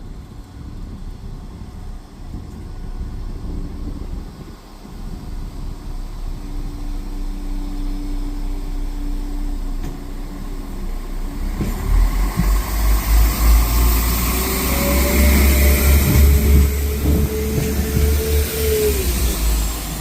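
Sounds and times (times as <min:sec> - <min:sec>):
train engine hum: 0:00.0 - 0:20.0
train rumble with hiss: 0:00.0 - 0:20.0
steady tones: 0:01.6 - 0:20.0.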